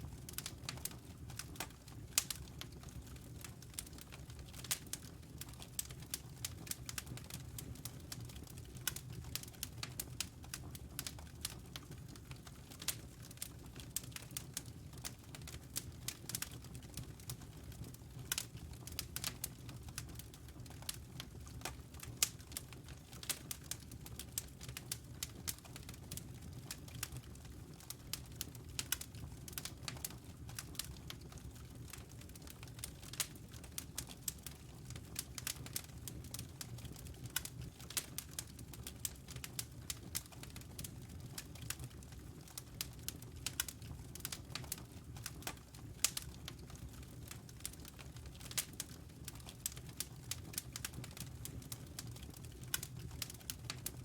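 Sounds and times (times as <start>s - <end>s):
low rumble of fire: 0.0s - 54.0s
logs crackling and popping: 0.1s - 54.0s.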